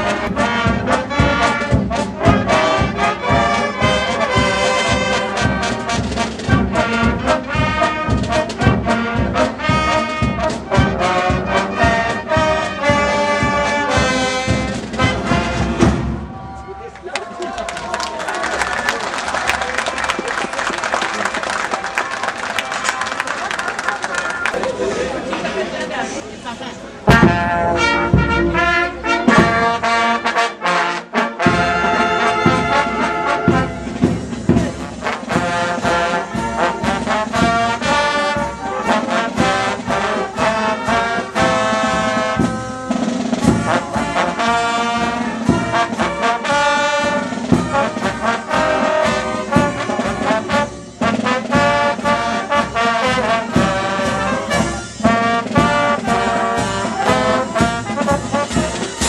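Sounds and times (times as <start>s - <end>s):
trombones: 0.0s - 16.3s, 27.0s - 59.0s
brass band playing: 0.0s - 16.5s, 24.2s - 59.0s.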